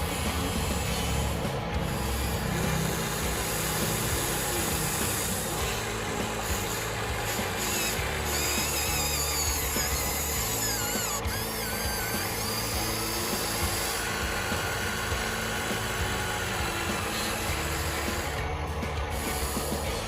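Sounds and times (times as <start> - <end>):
background music: 0.0 - 20.0
small electric motors whining: 0.0 - 20.0.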